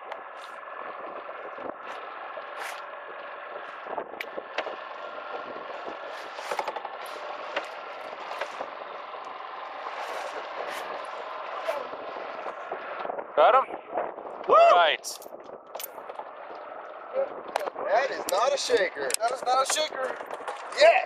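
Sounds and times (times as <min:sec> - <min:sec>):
outboard motor droning: 0:00.0 - 0:14.6, 0:15.3 - 0:21.0.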